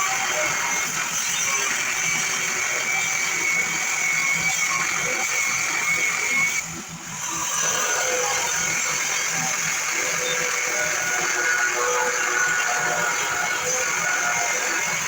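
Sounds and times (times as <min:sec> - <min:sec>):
power saw cutting steel: 0:00.0 - 0:15.0.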